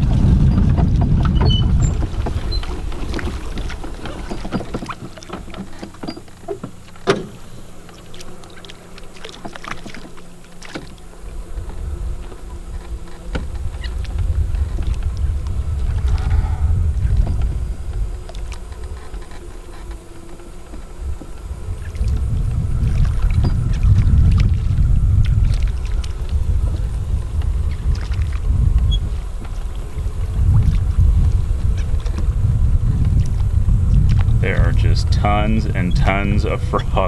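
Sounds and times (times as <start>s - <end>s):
golf cart rumble: 0.0s - 37.0s
frogs splashing into water: 1.8s - 32.1s.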